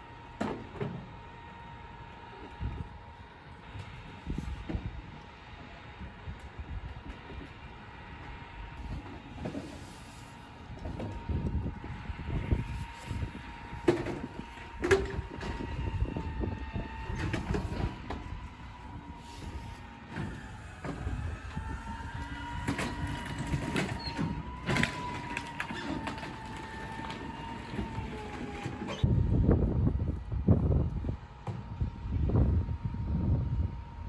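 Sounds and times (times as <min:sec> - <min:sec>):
garbage truck running: 0:00.0 - 0:34.0.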